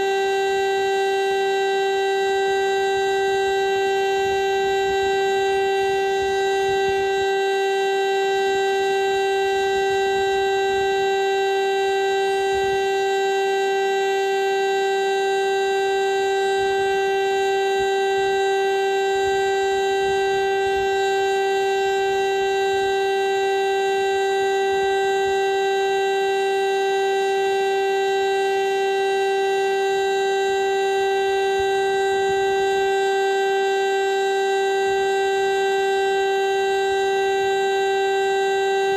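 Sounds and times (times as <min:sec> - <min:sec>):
mechanical siren steady tone: 0:00.0 - 0:38.9.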